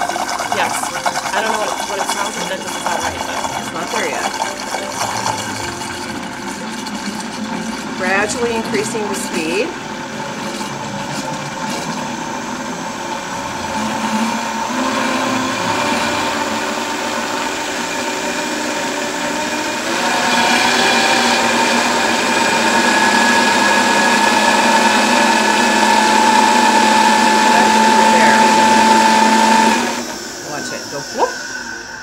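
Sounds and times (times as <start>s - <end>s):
blender motor whining: 0.0s - 32.0s.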